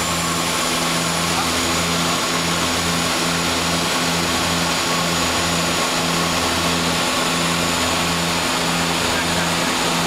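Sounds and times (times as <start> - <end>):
propeller drone: 0.0 - 10.0.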